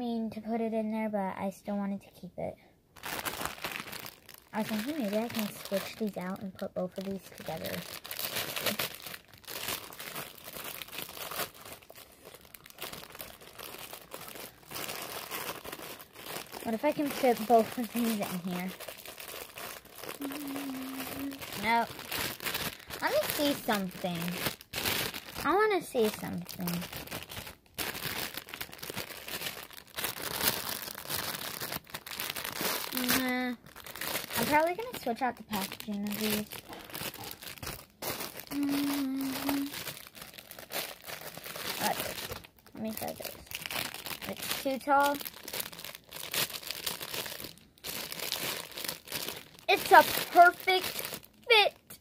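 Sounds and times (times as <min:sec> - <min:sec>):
plastic bag crinkling: 0:02.9 - 0:52.0.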